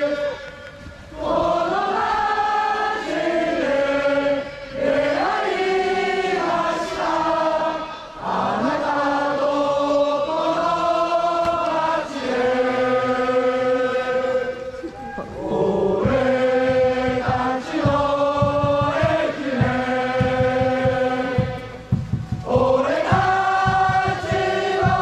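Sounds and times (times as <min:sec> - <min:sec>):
crowd singing in unison: 0:00.0 - 0:25.0.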